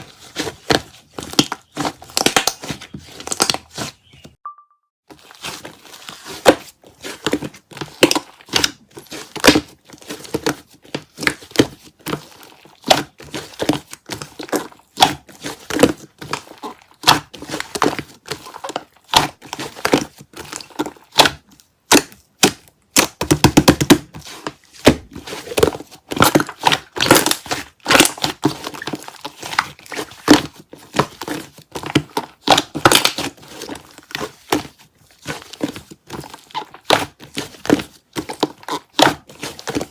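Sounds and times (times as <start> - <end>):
hands squishing slime: 0.0 - 4.2, 5.2 - 39.9.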